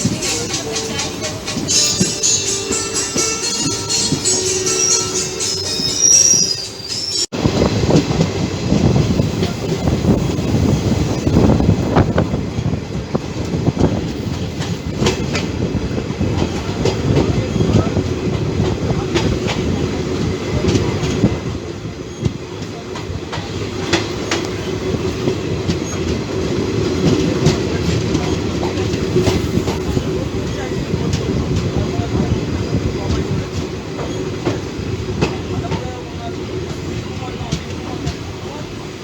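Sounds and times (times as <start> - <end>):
train rumbling on track: 0.0 - 39.0
wheels clicking over rail joints: 7.7 - 39.0.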